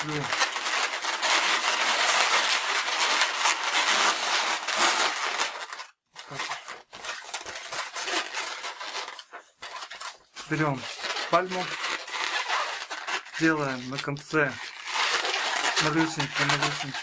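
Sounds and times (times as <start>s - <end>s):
balloons rubbing and scraping: 0.0s - 17.0s.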